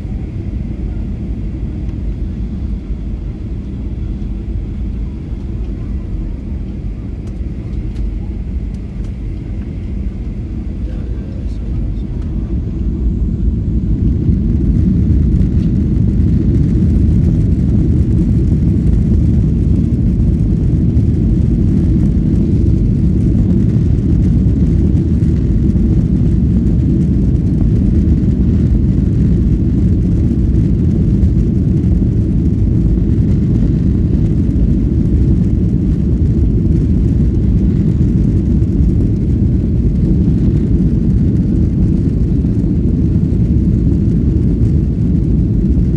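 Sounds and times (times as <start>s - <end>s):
airplane rumble: 0.0s - 45.9s.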